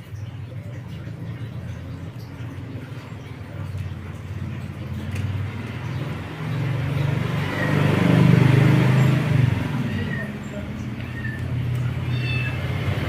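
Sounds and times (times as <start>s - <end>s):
vehicle passing by: 0.8s - 13.0s.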